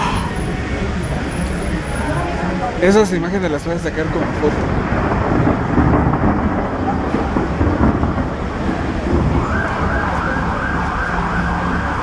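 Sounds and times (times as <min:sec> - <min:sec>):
emergency vehicle siren wailing: 0:00.0 - 0:03.5, 0:05.0 - 0:12.0
city street rumble: 0:00.0 - 0:12.0.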